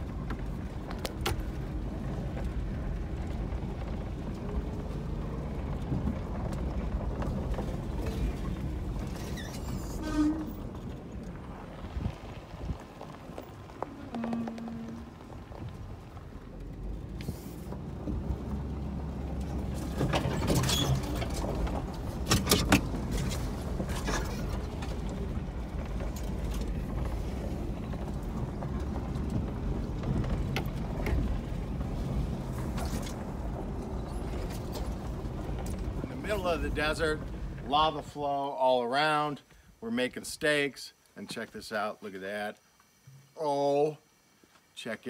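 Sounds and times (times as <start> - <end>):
knocks and rattles over bumps: 0.0 - 38.2
vehicle engine drone: 0.0 - 38.3.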